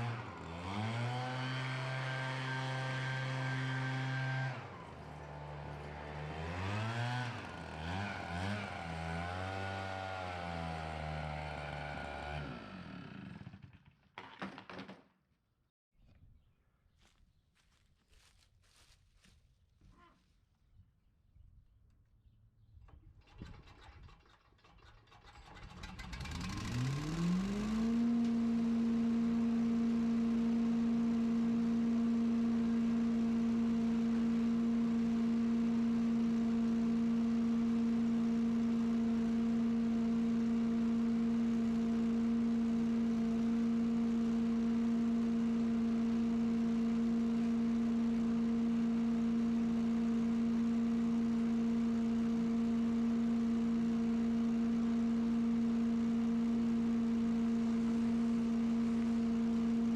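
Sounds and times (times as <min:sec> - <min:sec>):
leaf blower spinning up: 0:00.0 - 0:14.0, 0:23.5 - 0:59.9.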